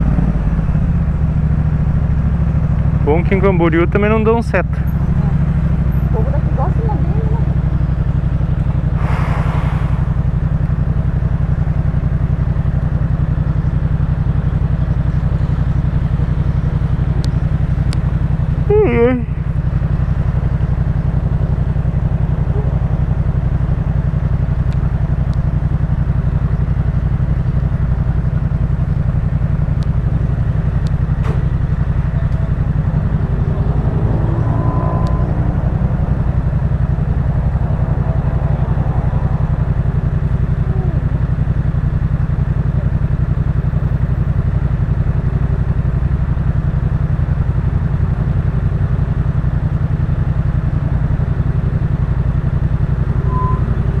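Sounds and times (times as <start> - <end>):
motorcycle engine running steadily: 0.0 - 54.0.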